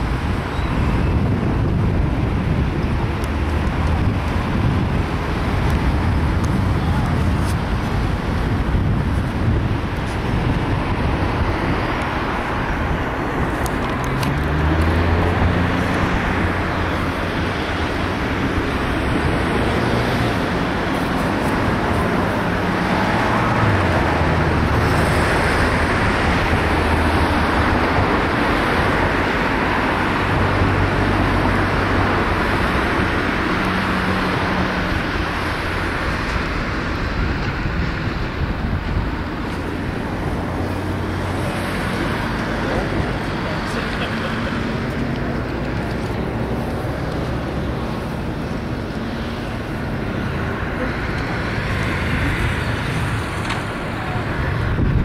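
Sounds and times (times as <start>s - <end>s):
motor engines rumbling: 0.0s - 55.0s
traffic din: 0.0s - 55.0s.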